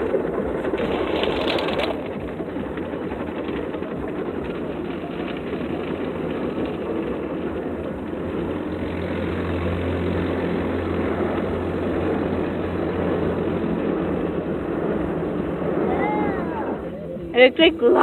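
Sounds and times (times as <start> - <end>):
car wash spray and machinery: 0.0 - 16.4
low motor hum: 0.0 - 18.0.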